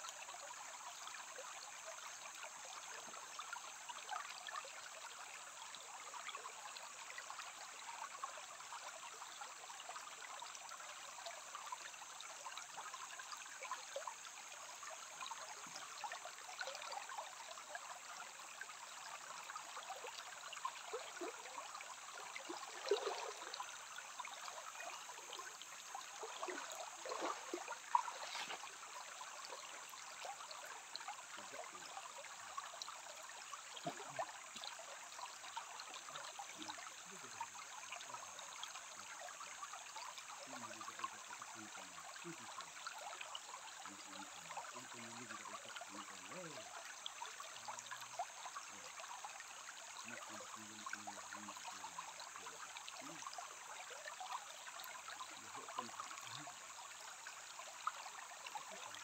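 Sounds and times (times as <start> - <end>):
stream babbling over stones: 0.0 - 59.0.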